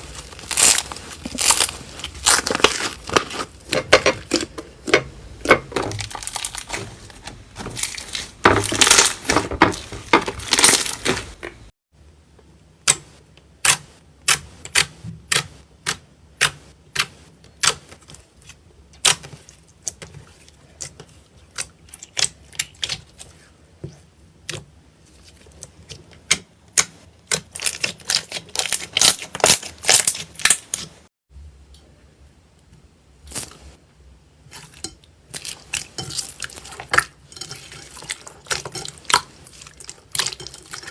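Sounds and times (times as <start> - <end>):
slime squishing: 0.0 - 4.9, 5.5 - 11.7, 13.6 - 31.0, 34.5 - 40.9.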